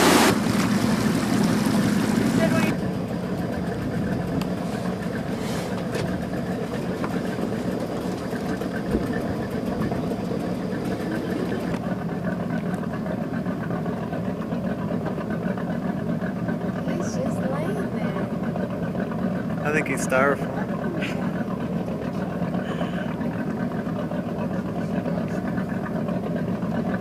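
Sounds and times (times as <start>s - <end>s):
boat engine idling: 0.0s - 27.0s.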